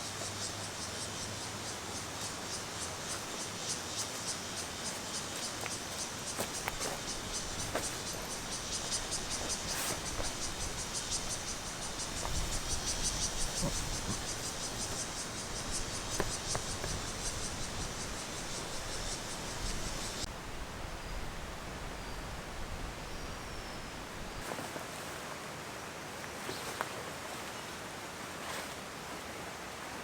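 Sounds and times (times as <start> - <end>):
insects chirping trill: 0.0 - 24.4.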